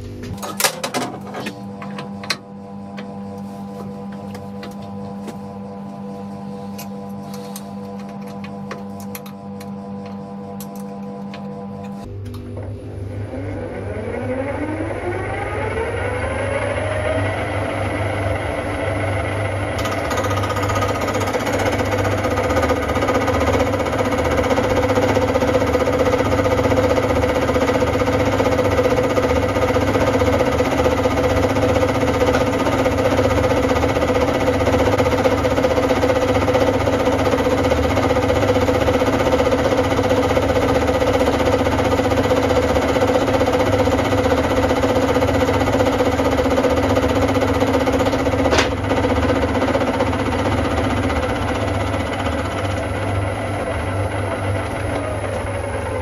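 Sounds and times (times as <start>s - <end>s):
milling machine whine and hum: 0.0s - 56.0s.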